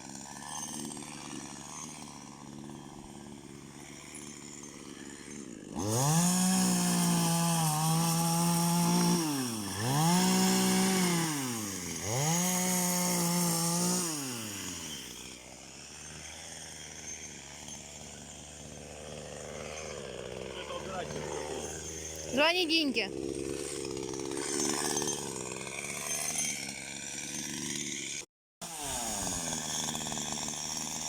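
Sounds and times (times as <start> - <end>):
chainsaw revving: 0.0 - 31.0.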